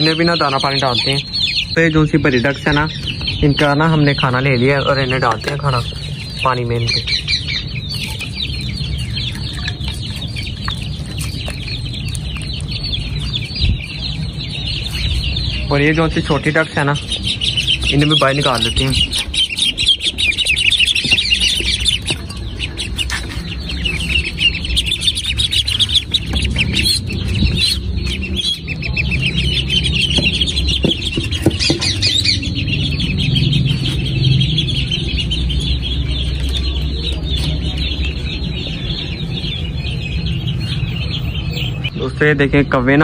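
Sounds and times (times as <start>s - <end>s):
ducklings peeping: 0.0s - 43.0s
steady low rumble: 0.0s - 43.0s.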